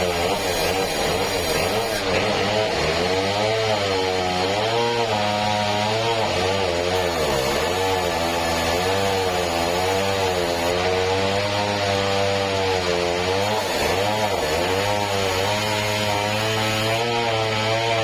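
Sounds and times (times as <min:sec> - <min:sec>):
saw cutting a log: 0:00.0 - 0:18.0
sawmill engine running: 0:00.0 - 0:18.0.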